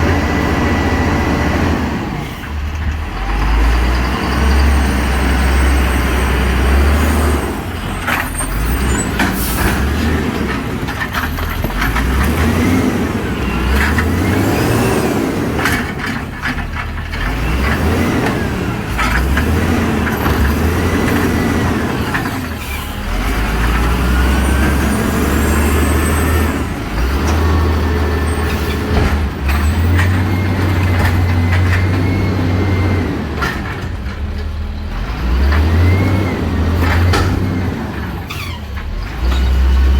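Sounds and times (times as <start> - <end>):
garbage truck engine rumble: 0.0 - 39.9.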